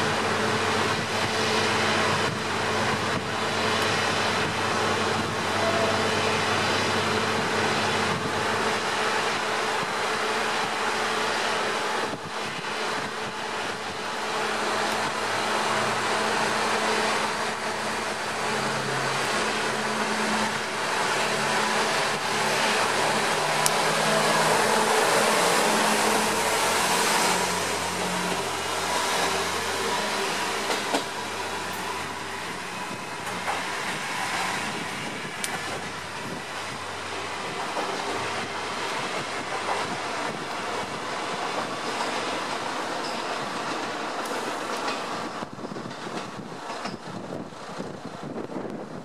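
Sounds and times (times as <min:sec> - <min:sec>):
diesel railcar engine: 0:00.0 - 0:49.0.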